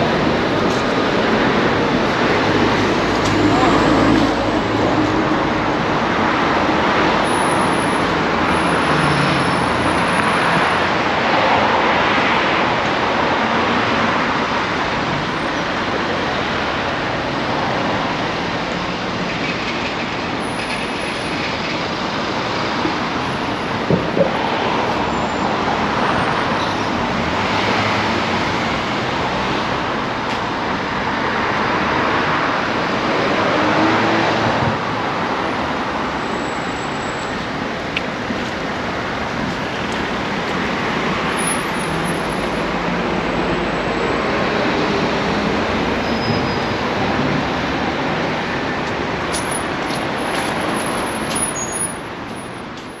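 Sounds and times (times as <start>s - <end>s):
cars and buses passing: 0.0s - 53.0s.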